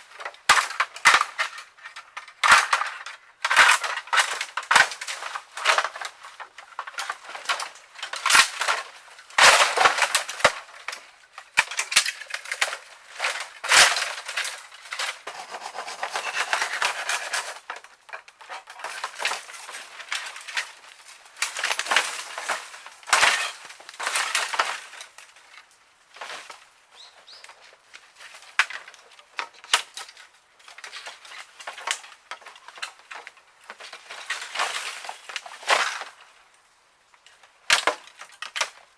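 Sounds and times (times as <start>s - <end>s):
dry bamboo crunching and rustling: 0.0s - 38.9s
bamboo cracking and snapping: 0.1s - 26.6s, 27.5s - 36.3s, 37.2s - 38.8s.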